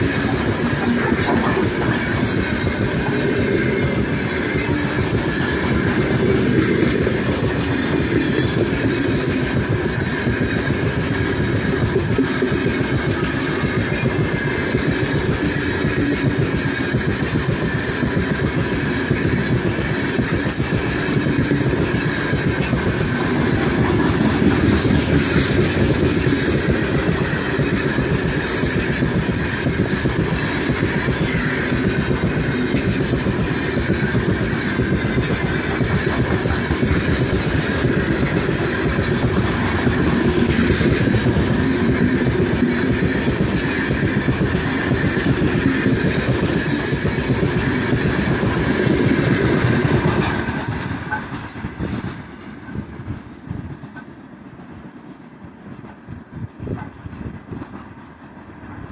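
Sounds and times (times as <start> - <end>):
steel wheels rumbling on rails: 0.0 - 58.9.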